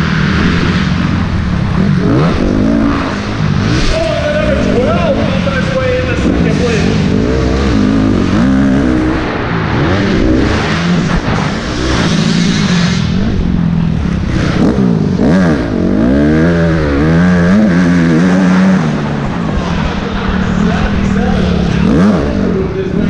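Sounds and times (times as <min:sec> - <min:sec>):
motocross bike engine revving: 0:00.0 - 0:23.0
other bikes running: 0:00.0 - 0:23.0.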